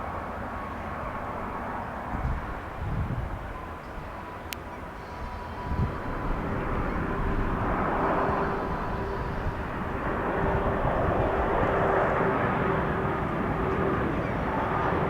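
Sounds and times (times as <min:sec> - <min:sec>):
jet airliner engines running: 0:00.0 - 0:15.0.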